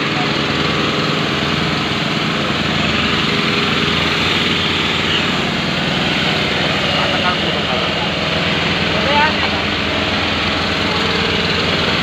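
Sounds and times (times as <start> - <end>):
small pump engines running: 0.0 - 12.0.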